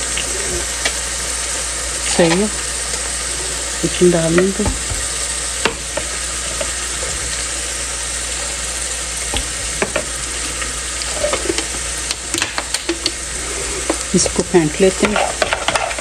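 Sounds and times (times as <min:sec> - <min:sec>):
onions sizzling in a pan: 0:00.0 - 0:16.0.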